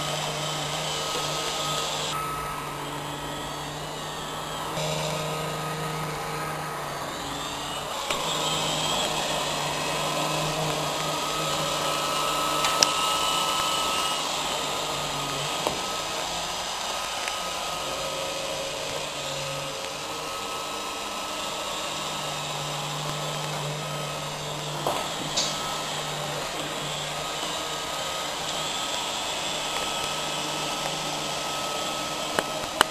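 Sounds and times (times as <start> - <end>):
robot vacuum whirring: 0.0 - 32.9.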